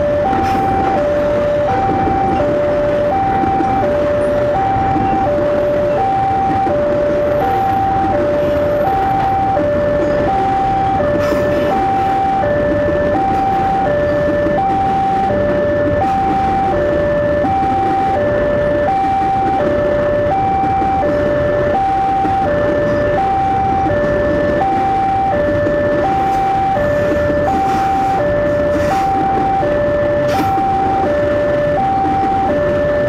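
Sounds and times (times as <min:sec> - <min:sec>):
level crossing two-tone alarm: 0:00.0 - 0:33.0
train wagons rumbling on rails: 0:00.0 - 0:33.0.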